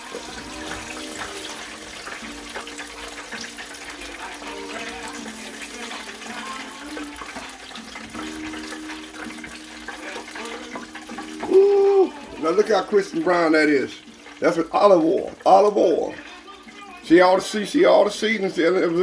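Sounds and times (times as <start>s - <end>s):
oil sizzling and crackling: 0.0s - 19.0s
quiet music with held notes: 0.0s - 19.0s.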